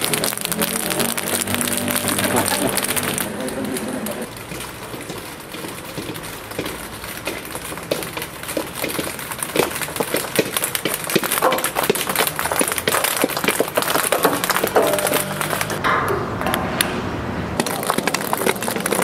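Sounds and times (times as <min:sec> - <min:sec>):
ping-pong balls bouncing on stone steps: 0:00.0 - 0:15.8, 0:17.6 - 0:19.0.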